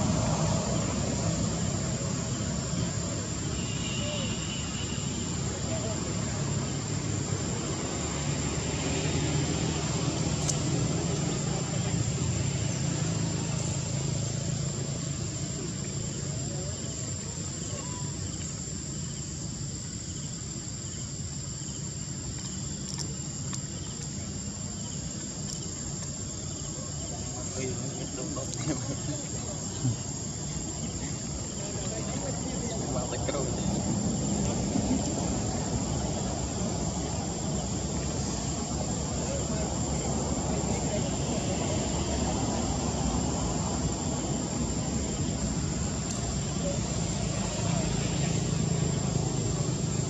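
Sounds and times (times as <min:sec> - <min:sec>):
insects droning: 0:00.0 - 0:50.0.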